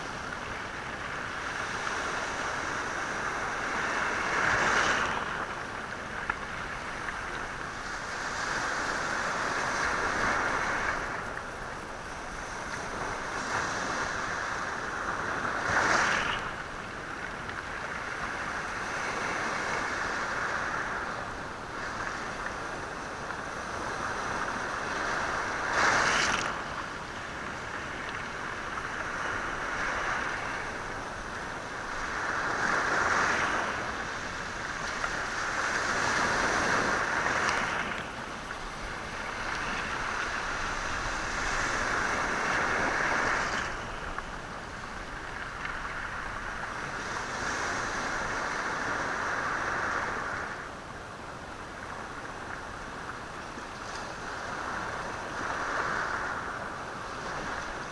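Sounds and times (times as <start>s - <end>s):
waves washing over stony shore: 0.0s - 57.9s.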